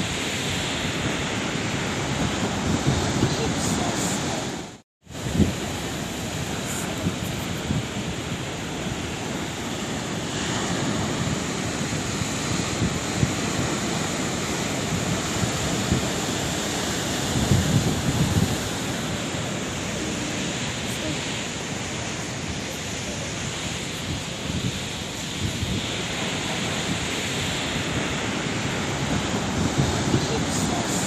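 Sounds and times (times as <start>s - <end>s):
sea waves washing on shore: 0.0s - 31.0s.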